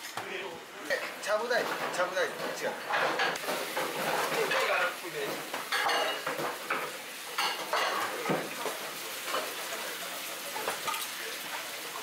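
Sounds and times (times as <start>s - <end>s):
steady kitchen hiss: 0.0s - 12.0s.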